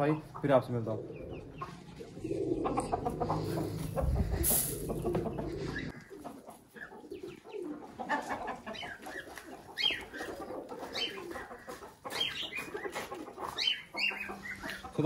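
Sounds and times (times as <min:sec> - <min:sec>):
chickens clucking: 0:00.0 - 0:15.0
pigeons cooing: 0:00.0 - 0:15.0.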